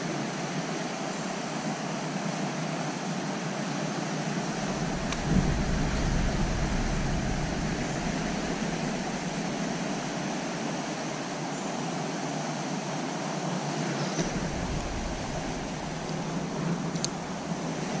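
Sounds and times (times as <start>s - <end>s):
creek water flowing over rocks: 0.0s - 18.0s.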